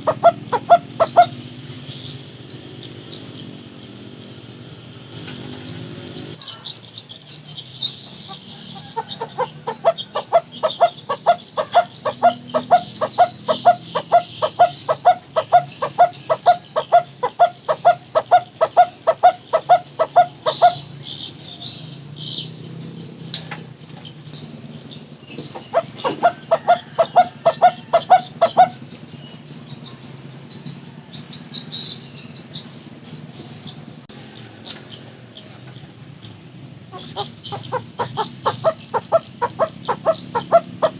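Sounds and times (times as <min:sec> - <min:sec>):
high insect chirping: 0:00.0 - 0:40.9.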